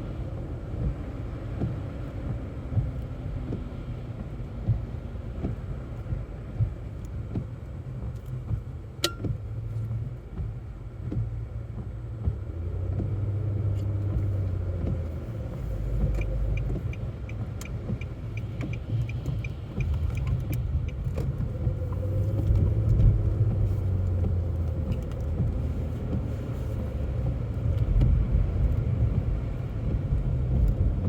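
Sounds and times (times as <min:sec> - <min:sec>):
car driving on snowy road: 0:00.0 - 0:31.0.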